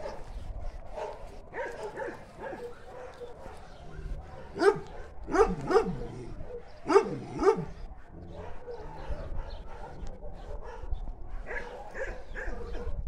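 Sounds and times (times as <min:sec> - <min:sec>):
dog barking: 0:00.0 - 0:00.3, 0:00.9 - 0:13.0.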